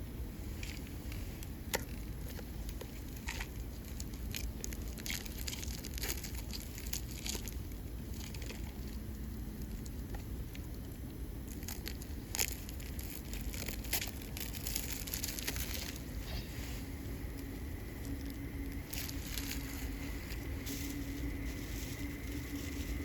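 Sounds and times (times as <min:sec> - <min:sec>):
faint steady hum: 0:00.0 - 0:23.0
campfire crackling: 0:00.5 - 0:23.0.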